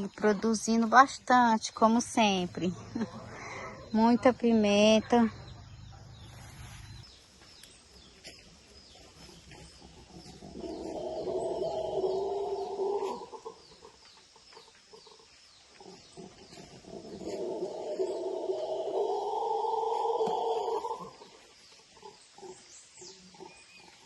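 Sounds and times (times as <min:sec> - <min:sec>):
chickens calling: 0:00.0 - 0:24.0.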